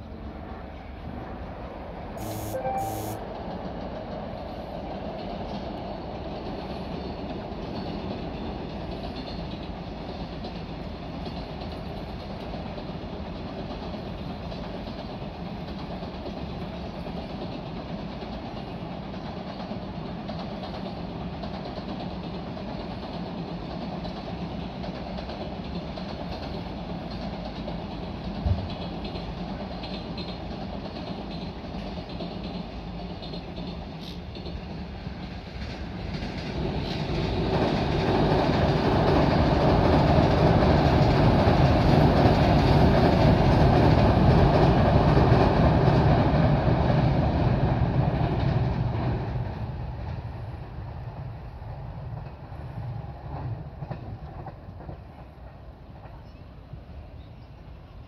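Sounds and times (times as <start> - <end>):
train wagons rumbling over bridge: 3.2 - 58.0.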